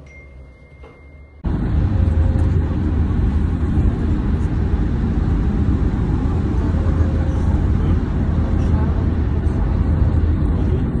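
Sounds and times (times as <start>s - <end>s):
car road noise rumble: 1.4s - 11.0s.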